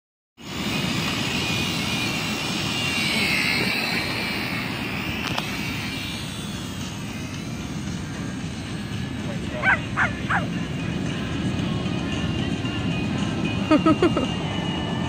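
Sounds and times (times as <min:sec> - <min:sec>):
toy drone propellers whining: 0:00.4 - 0:15.0
wind and surf rumble: 0:00.4 - 0:15.0.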